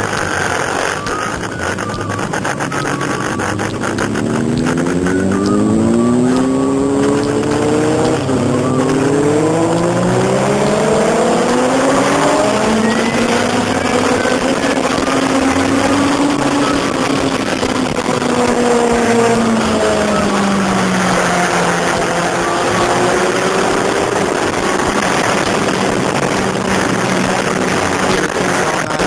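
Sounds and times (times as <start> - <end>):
motorcycle engine revving: 0.0 - 29.0
wind rush: 0.0 - 29.0.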